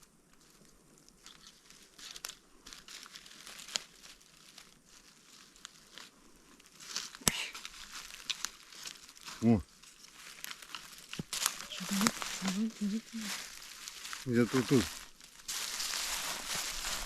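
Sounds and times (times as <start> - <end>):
leaf litter crackling and rustling: 0.0 - 17.0.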